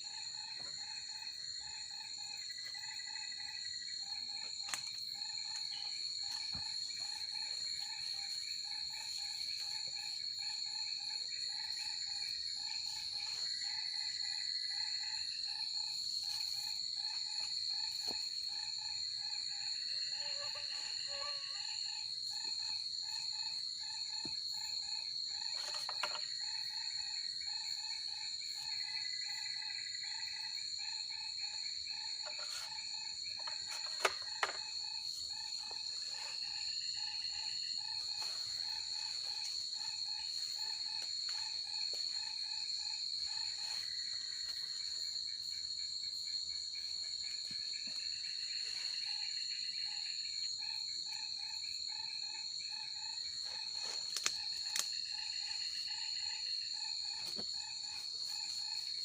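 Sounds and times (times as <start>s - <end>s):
insect high-pitched trill: 0.0s - 59.0s
rhythmic insect chirping: 0.0s - 59.0s.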